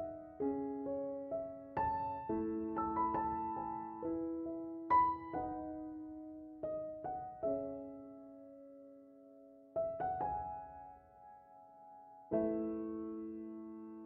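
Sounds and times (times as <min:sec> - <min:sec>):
gentle solo piano chords: 0:00.0 - 0:14.0.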